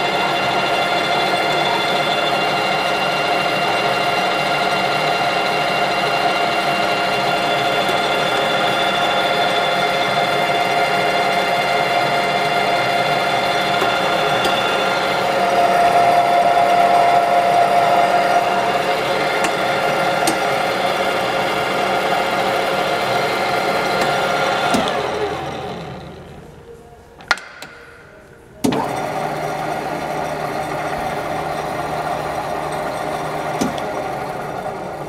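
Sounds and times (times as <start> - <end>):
milling machine running: 0.0 - 26.8, 28.5 - 35.0.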